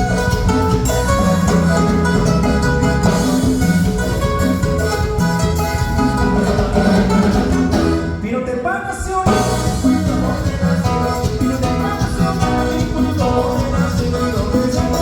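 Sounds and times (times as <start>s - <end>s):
latin dance band music: 0.0s - 15.0s.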